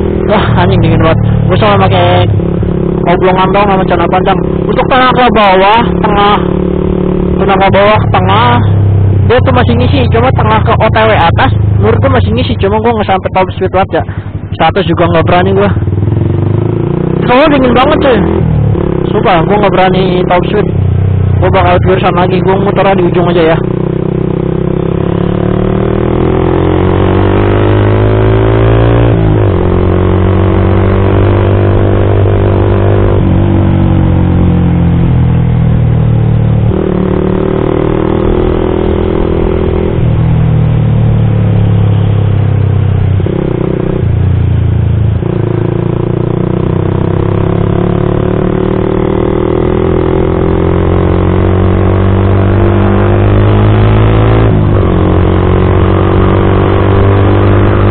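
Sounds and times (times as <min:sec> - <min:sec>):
motorcycle engine revving through gears: 0:00.0 - 0:12.7, 0:15.0 - 0:57.9.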